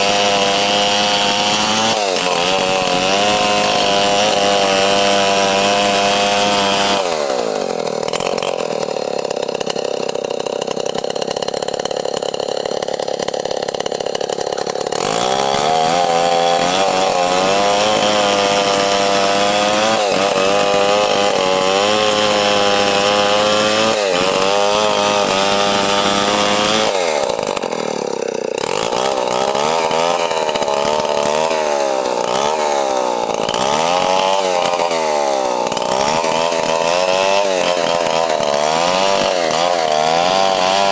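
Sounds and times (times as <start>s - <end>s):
chainsaw sawing through log: 0.0s - 40.9s.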